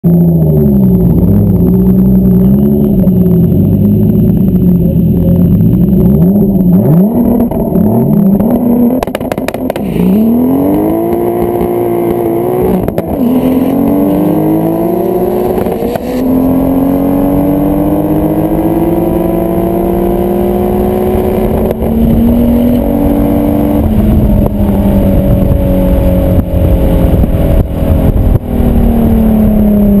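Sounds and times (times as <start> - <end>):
car engine revving and accelerating: 0.1 - 30.0.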